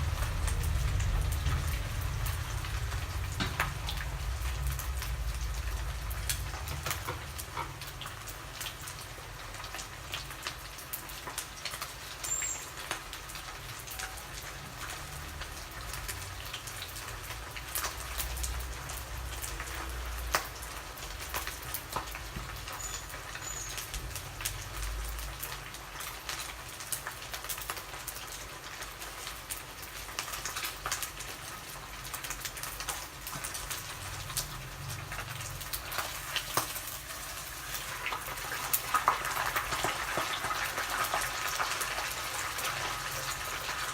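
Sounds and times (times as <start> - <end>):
fish frying in oil: 0.0 - 43.9.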